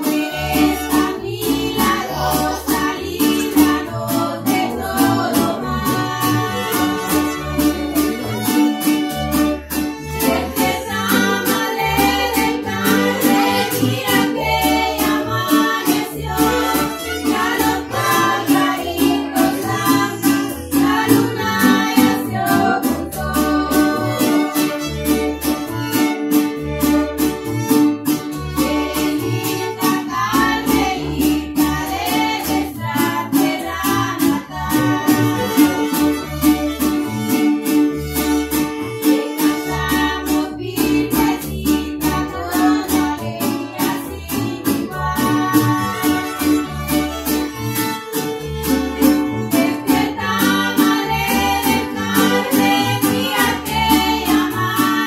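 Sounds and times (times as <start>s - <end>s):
person singing: 0.0s - 25.6s, 28.5s - 36.5s, 39.0s - 47.0s, 49.2s - 55.0s
bass line: 0.0s - 55.0s
strummed guitar: 0.0s - 55.0s.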